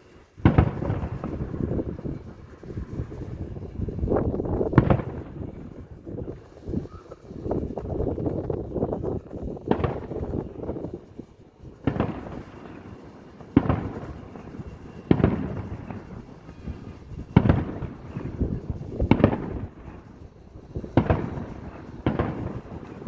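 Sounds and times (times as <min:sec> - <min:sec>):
fireworks bangs with rumbling echo: 0:00.0 - 0:23.0.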